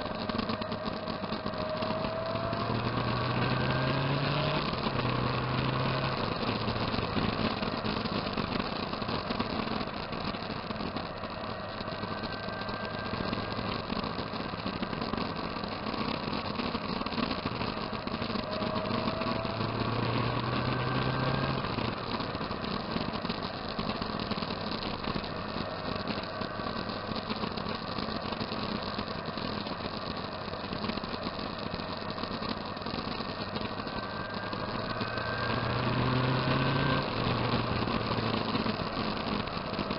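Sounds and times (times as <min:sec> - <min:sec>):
motorcycle engines idling: 0:00.0 - 0:03.7, 0:04.7 - 0:39.9.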